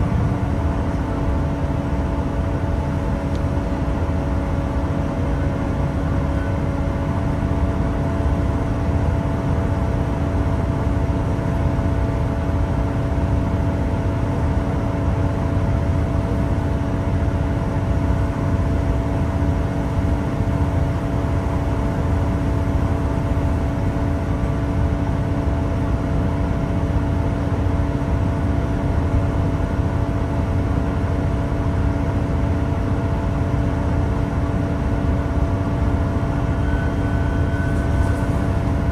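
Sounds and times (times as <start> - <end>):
diesel engine hum: 0.0 - 38.9.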